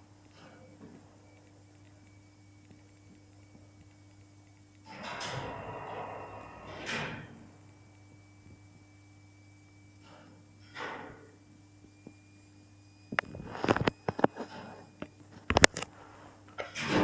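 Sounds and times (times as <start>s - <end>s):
faint steady hum: 0.0s - 16.6s.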